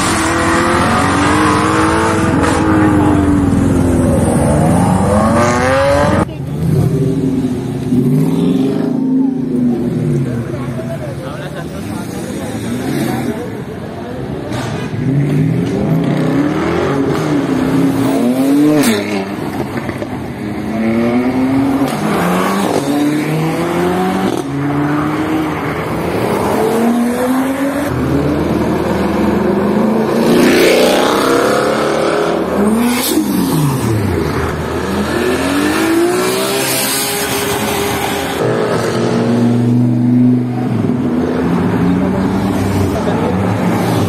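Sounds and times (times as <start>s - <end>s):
cars accelerating hard: 0.0s - 44.0s.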